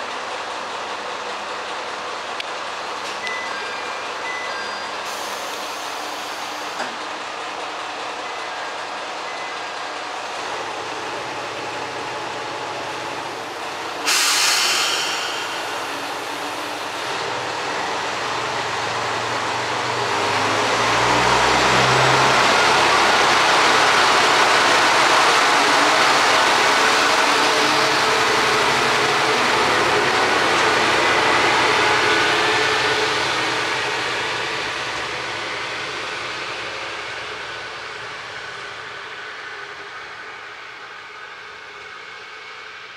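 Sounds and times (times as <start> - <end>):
diesel railcar engine: 0.0 - 42.9
railcar running noise: 0.0 - 42.9.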